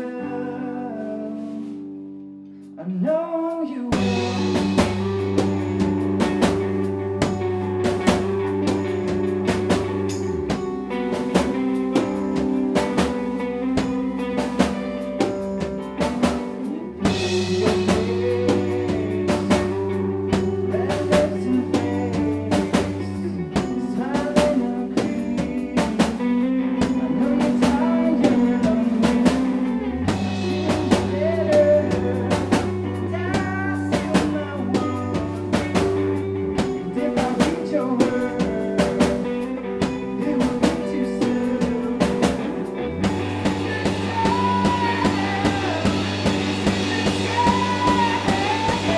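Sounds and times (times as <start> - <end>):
guitar: 0.0 - 48.9
bass line: 3.9 - 48.9
drum kit beat: 3.9 - 48.9.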